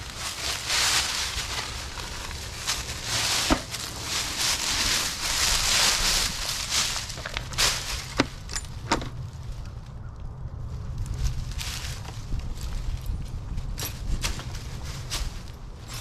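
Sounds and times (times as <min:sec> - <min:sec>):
dry leaves crunching: 0:00.0 - 0:10.0, 0:10.6 - 0:16.0.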